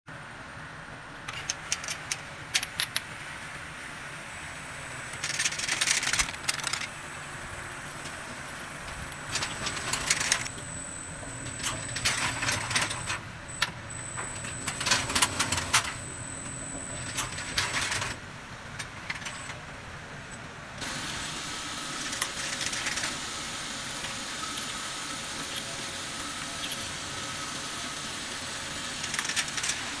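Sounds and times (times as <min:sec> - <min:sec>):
steady machine hum: 0:02.1 - 0:30.0.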